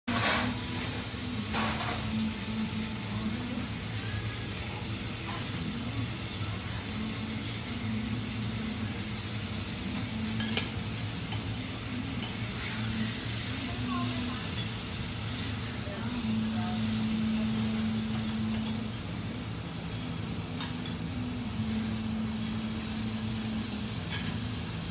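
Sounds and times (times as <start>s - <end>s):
steaks sizzling on a griddle: 0.1s - 24.9s.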